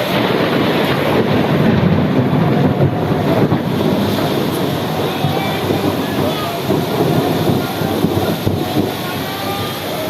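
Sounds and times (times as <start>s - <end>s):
rain: 0.0s - 10.0s
rolling thunder: 0.0s - 10.0s
wind buffeting microphone: 0.0s - 10.0s.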